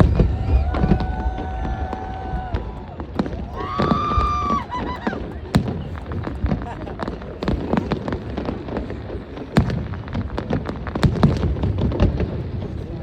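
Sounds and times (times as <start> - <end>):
big fireworks booms: 0.0 - 13.0
fireworks bangs and crackling pops: 0.0 - 13.0.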